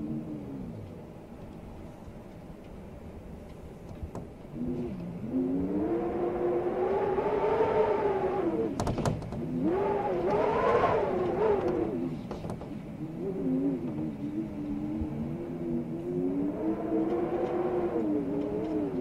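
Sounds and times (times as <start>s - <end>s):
blizzard wind howling: 0.0s - 19.0s.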